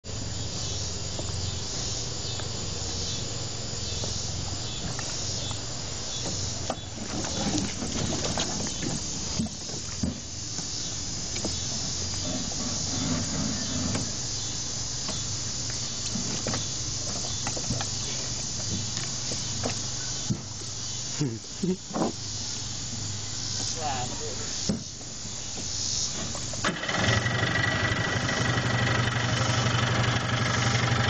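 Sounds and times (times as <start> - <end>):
steady high hiss: 0.1 - 27.0.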